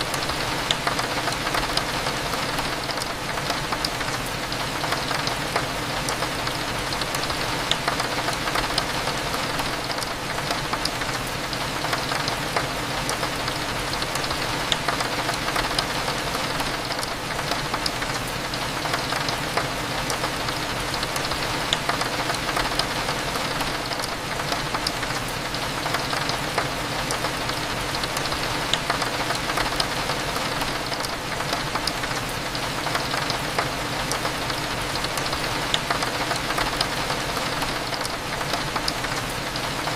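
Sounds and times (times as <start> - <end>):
rain hitting a window: 0.0 - 39.9.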